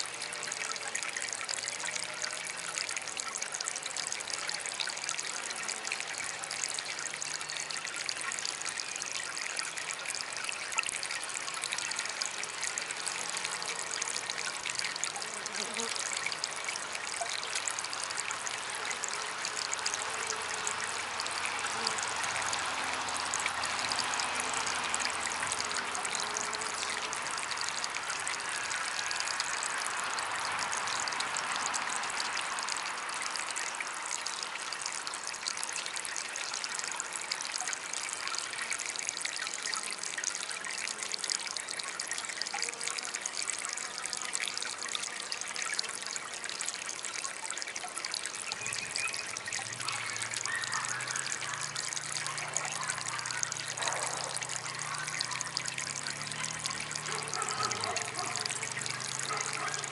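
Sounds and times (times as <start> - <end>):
water fountain trickling: 0.0 - 59.9.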